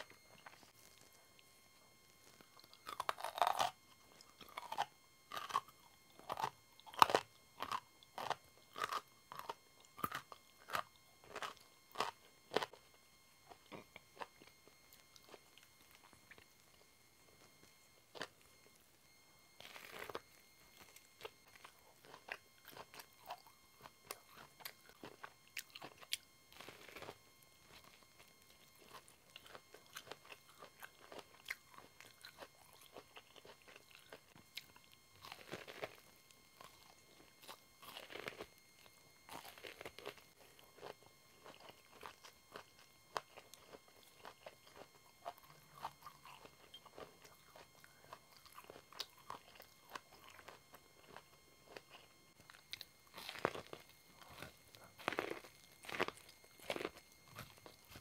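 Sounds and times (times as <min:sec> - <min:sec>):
biting and chewing corn: 0:02.3 - 0:16.8, 0:18.1 - 0:18.4, 0:19.6 - 0:58.0.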